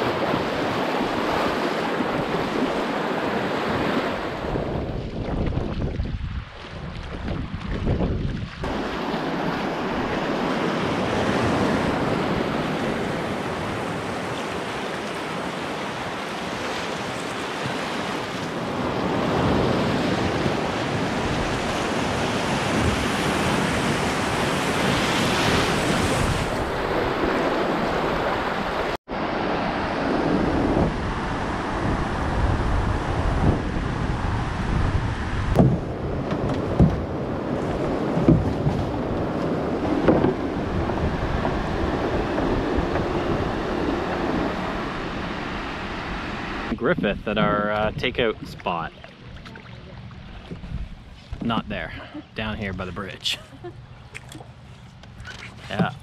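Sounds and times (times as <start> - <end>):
wind buffeting microphone: 0.0 - 52.8.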